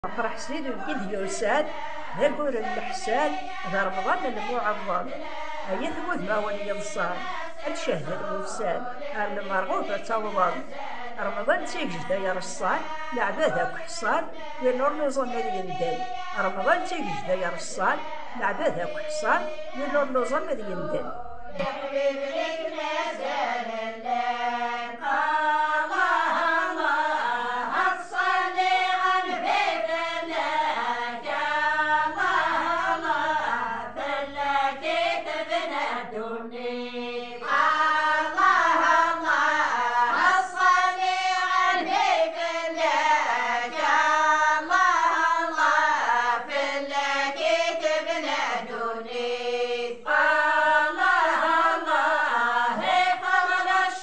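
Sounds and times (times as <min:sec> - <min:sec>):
women singing unaccompanied: 0:00.0 - 0:54.0.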